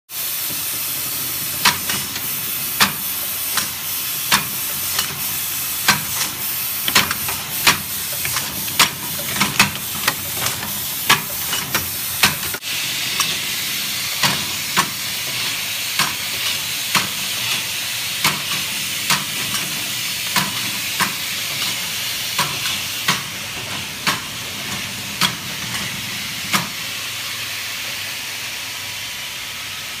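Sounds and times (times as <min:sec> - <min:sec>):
steady hiss: 0:00.1 - 0:30.0
machine mechanical clacks: 0:00.3 - 0:26.9.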